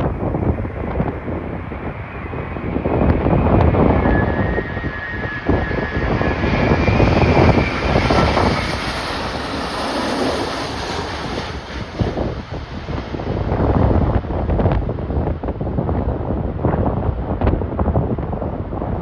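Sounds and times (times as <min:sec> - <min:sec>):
jet airliner engines passing: 0:00.0 - 0:19.0
wind gusts buffeting microphone: 0:00.0 - 0:19.0.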